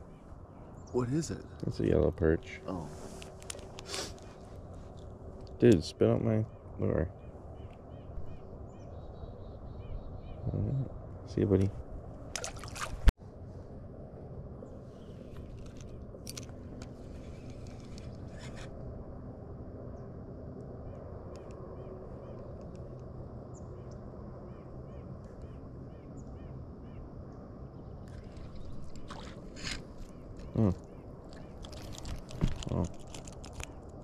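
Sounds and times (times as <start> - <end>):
low outdoor background on water: 0.0 - 34.0.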